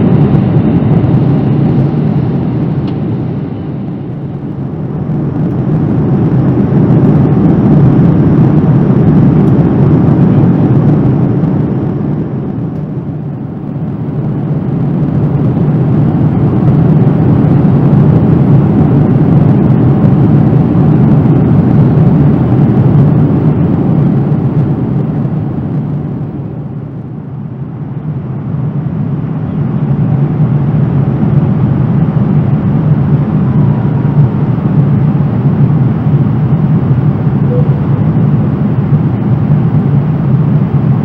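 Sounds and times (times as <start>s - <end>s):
airliner cabin roar: 0.0s - 41.0s.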